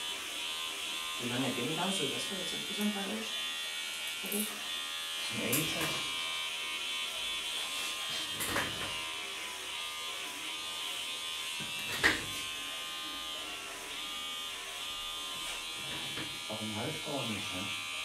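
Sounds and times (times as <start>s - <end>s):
electric hair clipper buzzing: 0.0s - 18.0s.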